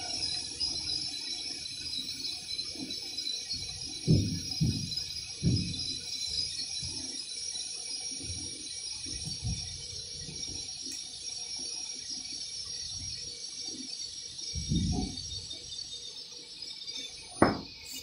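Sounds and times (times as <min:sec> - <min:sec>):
welding arc hissing: 0:00.0 - 0:18.0.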